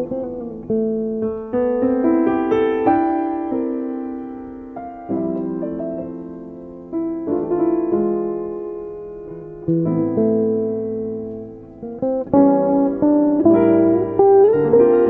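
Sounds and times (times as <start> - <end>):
jazz guitar: 0.0 - 15.0
jazz piano chords: 0.0 - 15.0.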